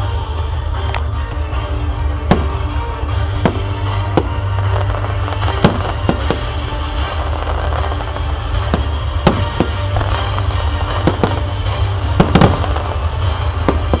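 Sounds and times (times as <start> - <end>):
fireworks bursting with sharp bangs: 0.0 - 14.0
music soundtrack: 0.0 - 14.0.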